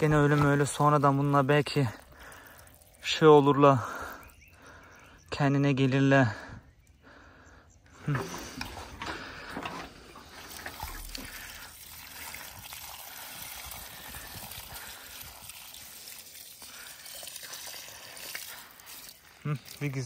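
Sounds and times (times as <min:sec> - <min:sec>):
water pouring onto soil: 0:00.0 - 0:04.6, 0:08.1 - 0:20.0.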